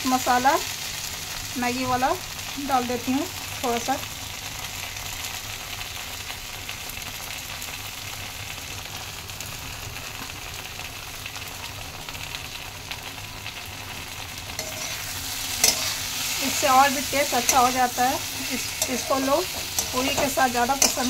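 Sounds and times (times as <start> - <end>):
vegetables sizzling in pan: 0.0 - 21.0.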